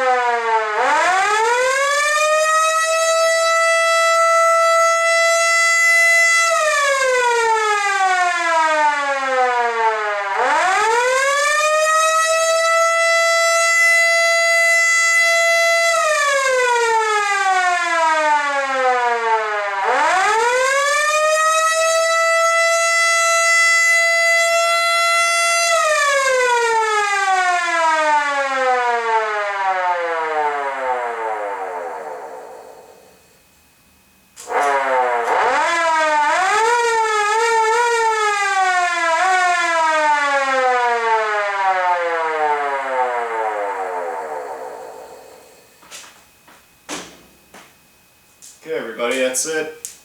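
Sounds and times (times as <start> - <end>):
siren wailing: 0.0 - 33.4, 34.4 - 48.6.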